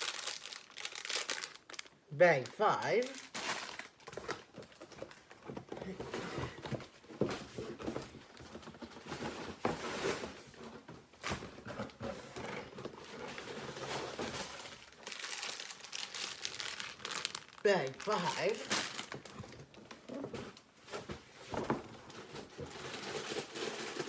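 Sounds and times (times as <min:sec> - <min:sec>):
plastic bags crinkling: 0:00.0 - 0:07.0, 0:07.8 - 0:24.0.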